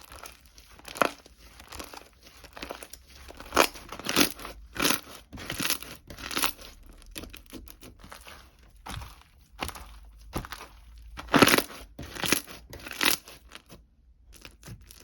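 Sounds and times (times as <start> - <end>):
crinkling and crunching: 0.0 - 15.0.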